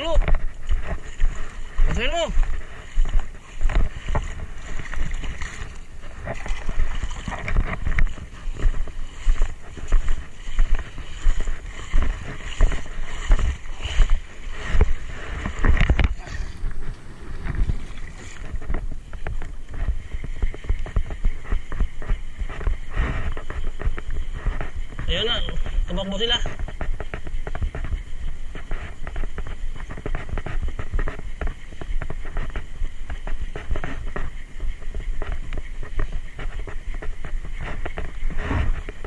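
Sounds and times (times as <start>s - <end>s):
seawater sloshing and splashing: 0.0s - 39.0s.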